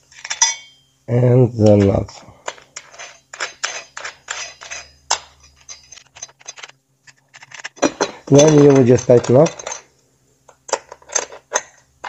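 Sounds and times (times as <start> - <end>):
small steel parts clinking: 0.0 - 0.9, 1.6 - 9.9, 10.7 - 12.0.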